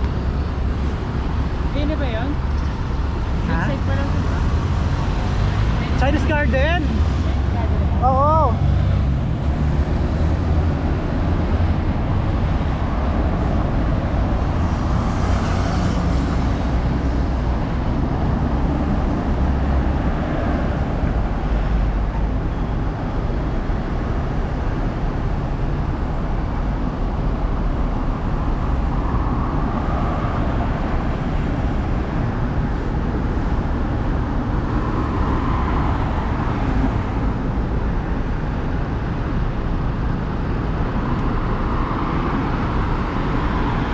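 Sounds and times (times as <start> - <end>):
road traffic rumble: 0.0 - 43.9.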